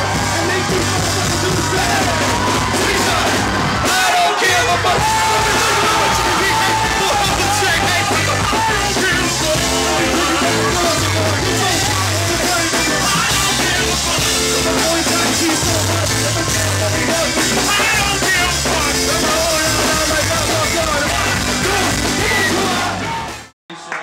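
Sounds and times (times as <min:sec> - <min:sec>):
drums: 0:00.0 - 0:23.5
sustained bass notes: 0:00.0 - 0:23.5
keyboard: 0:00.0 - 0:24.0
person singing into microphone: 0:00.4 - 0:23.2.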